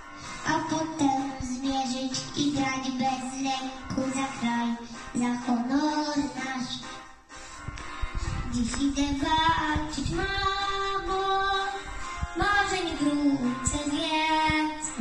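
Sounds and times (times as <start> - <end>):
musical backing track: 0.0 - 15.0
boy singing slow song: 0.2 - 7.0, 8.1 - 15.0.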